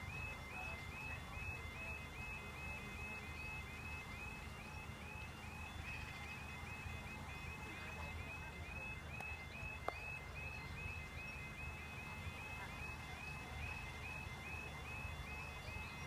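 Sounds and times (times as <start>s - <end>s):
level crossing warbling alarm: 0.0s - 16.0s.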